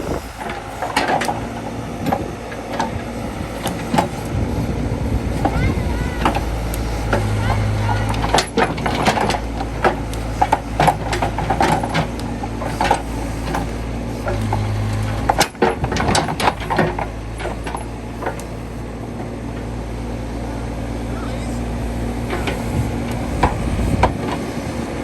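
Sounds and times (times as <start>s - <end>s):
low engine hum: 0.0s - 25.0s
sharp clicks and metallic knocks: 0.3s - 4.4s, 5.3s - 19.7s, 22.1s - 24.9s.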